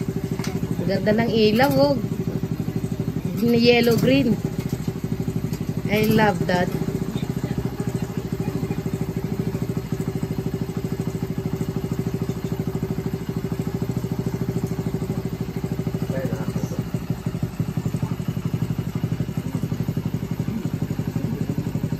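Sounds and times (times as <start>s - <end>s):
small engine idling: 0.0s - 21.9s.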